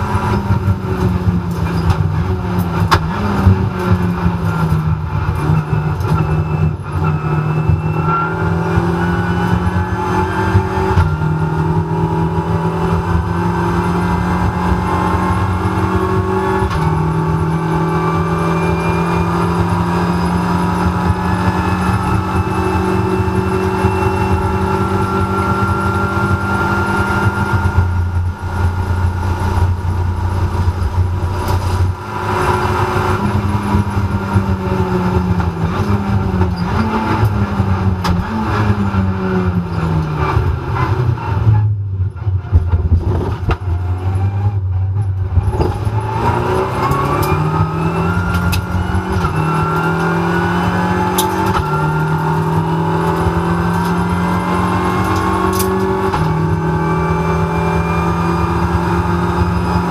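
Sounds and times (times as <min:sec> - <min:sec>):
gear changes: 0:00.0 - 0:41.0, 0:45.0 - 0:59.9
race car engine revving: 0:00.0 - 0:41.6, 0:42.9 - 0:59.9.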